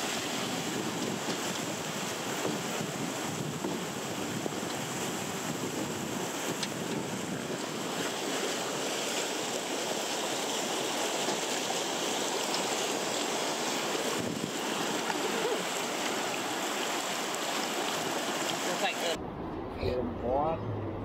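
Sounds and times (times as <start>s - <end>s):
river rapids rushing: 0.0s - 19.2s.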